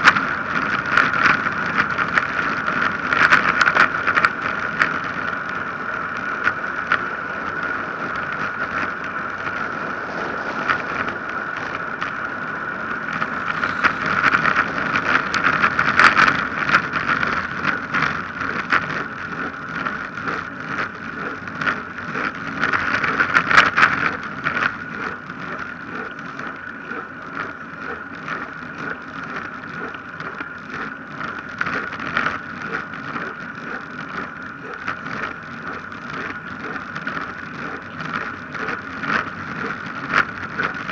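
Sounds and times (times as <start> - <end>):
bicycle tyre noise: 0.0 - 40.9
crackling rattles: 0.0 - 40.9
wind rushing over microphone: 0.0 - 40.9.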